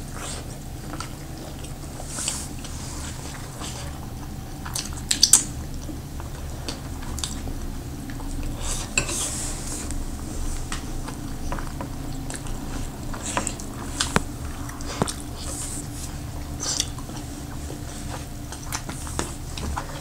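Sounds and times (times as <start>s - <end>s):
chewing and mouth smacks: 0.0s - 9.0s, 9.8s - 20.0s
steady low hum: 0.0s - 20.0s.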